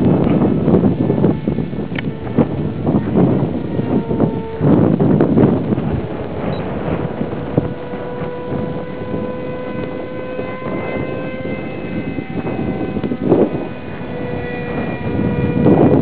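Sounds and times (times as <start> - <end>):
model airplane motor whine: 0.0 - 16.0
wind rumble on microphone: 0.0 - 16.0.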